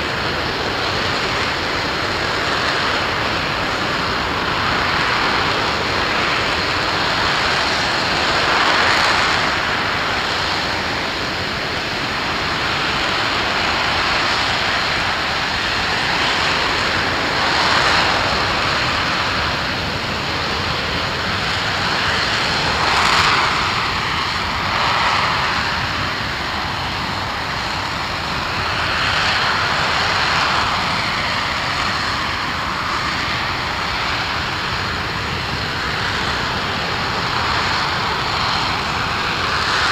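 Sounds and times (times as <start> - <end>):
rocket engine firing: 0.1 - 39.9.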